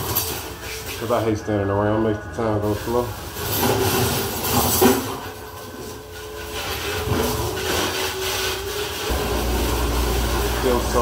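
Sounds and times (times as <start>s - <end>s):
metal ware clanking: 0.0s - 1.4s, 2.6s - 11.0s
dishwashing water and machinery: 0.0s - 11.0s.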